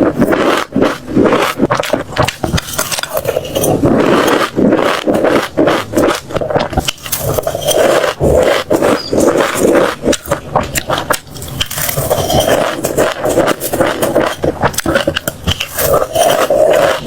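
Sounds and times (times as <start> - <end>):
chewing crunchy seeds: 0.0 - 17.0.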